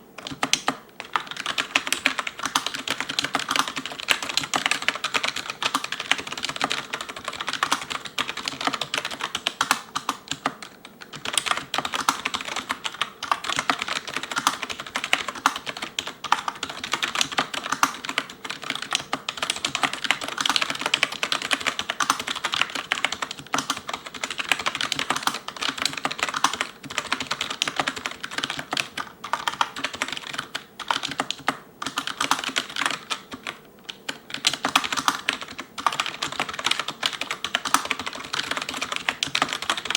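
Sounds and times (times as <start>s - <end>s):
fast keyboard typing: 0.2s - 39.9s.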